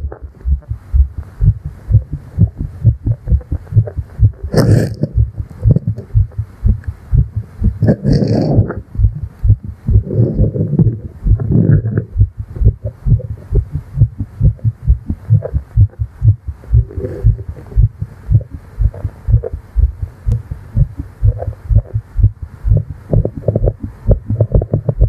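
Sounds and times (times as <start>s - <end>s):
fast heartbeat thumps: 0.0s - 25.0s.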